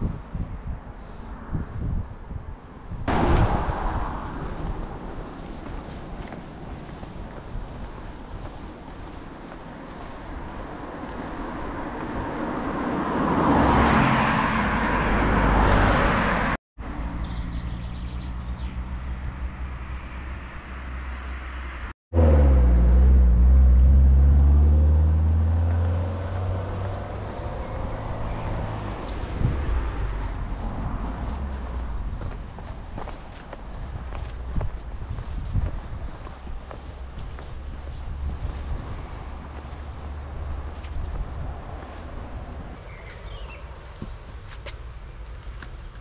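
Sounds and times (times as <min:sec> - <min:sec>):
vehicles passing close by: 0:03.0 - 0:46.0.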